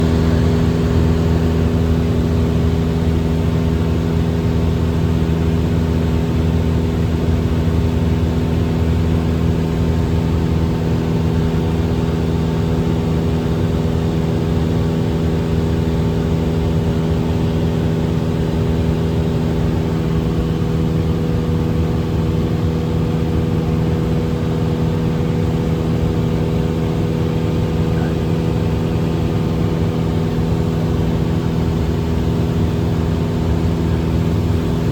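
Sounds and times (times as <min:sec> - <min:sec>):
airplane engine and propeller droning: 0:00.0 - 0:34.9.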